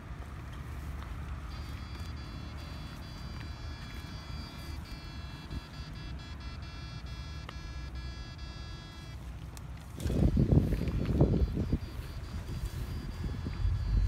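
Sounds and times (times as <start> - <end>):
high-pitched electronic whine: 1.5 - 9.3, 10.0 - 14.0.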